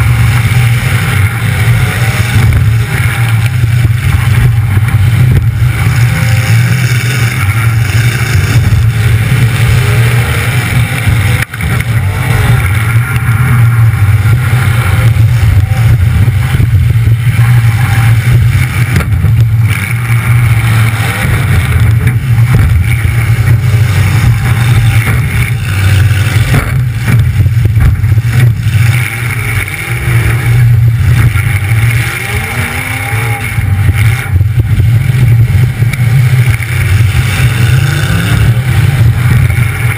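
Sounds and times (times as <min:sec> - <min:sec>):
loud car engine drone: 0:00.0 - 0:39.9.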